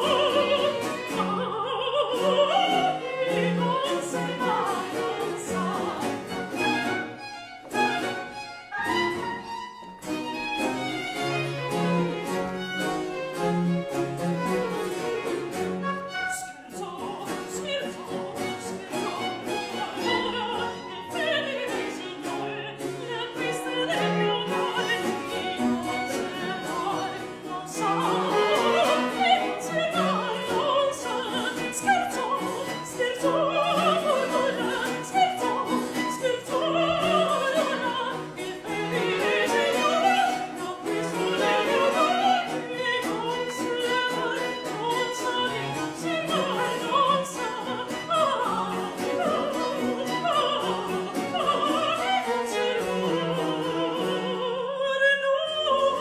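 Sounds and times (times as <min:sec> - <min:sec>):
woman singing opera: 0:00.0 - 0:07.0, 0:07.7 - 0:09.4, 0:14.2 - 0:56.0
string orchestra: 0:00.0 - 0:56.0.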